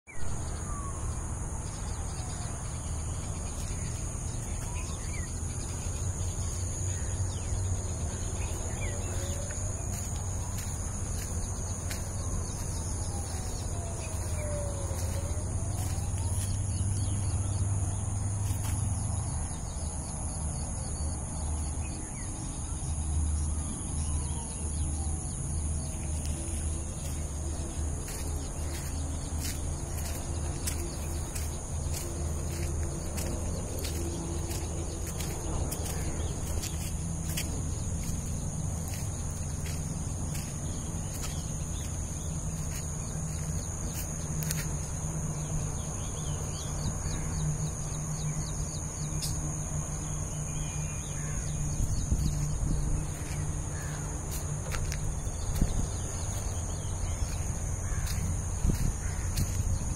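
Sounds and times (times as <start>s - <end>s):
insect drone: 0.1s - 59.9s.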